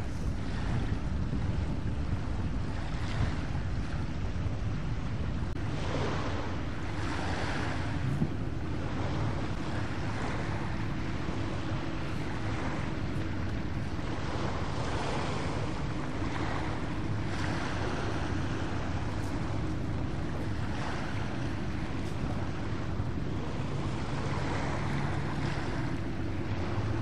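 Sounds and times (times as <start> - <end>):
motor boat engines droning: 0.0 - 27.0
water washing at shoreline: 0.0 - 27.0
wind noise on microphone: 0.0 - 27.0.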